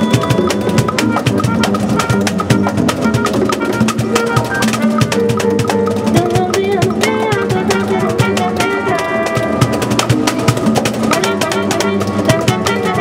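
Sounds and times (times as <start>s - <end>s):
trumpet: 0.0s - 6.3s, 7.0s - 13.0s
clicking percussion strokes: 0.0s - 13.0s
drum kit: 0.0s - 13.0s
piano: 0.0s - 13.0s
upright bass: 0.0s - 13.0s.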